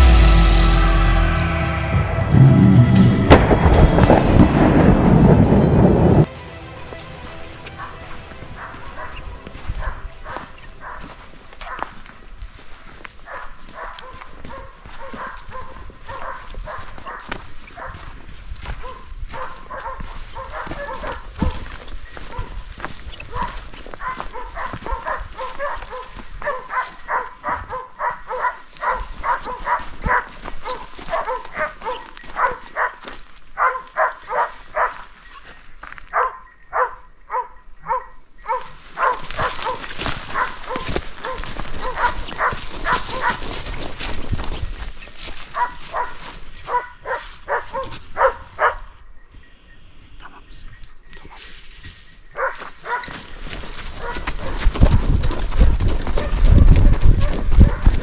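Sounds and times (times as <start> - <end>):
dogs barking and baying: 6.9 - 49.1, 52.2 - 58.0.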